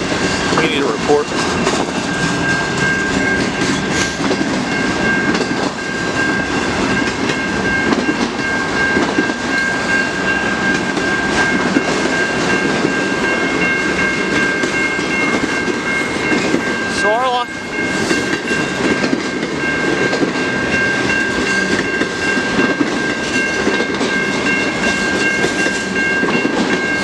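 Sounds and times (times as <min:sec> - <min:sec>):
train wheels rushing on rails: 0:00.0 - 0:27.0
high-pitched ringing tone: 0:01.5 - 0:27.0.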